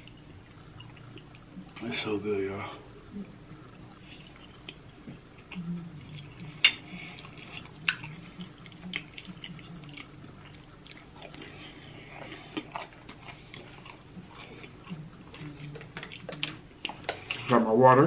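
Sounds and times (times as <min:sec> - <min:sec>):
chewing and mouth smacking: 0:00.0 - 0:01.8, 0:03.2 - 0:17.5.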